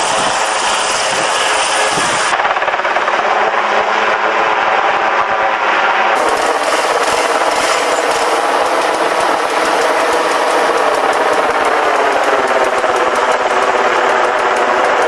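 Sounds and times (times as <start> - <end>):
helicopter rotor beat: 0.0 - 15.0
turbine noise: 0.0 - 15.0.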